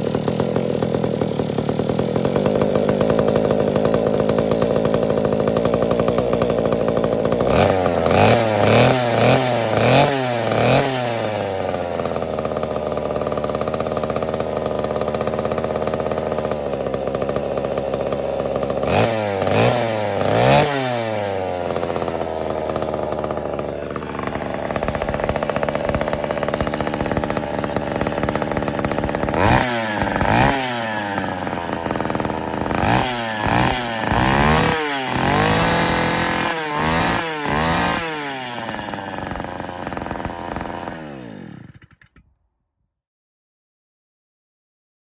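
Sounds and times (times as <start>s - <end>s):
go-kart engine revving: 0.0s - 42.2s.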